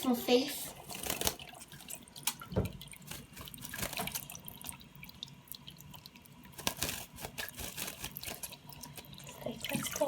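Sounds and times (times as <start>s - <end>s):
tap water running: 0.0s - 10.0s
water splashing and dripping: 0.0s - 10.0s.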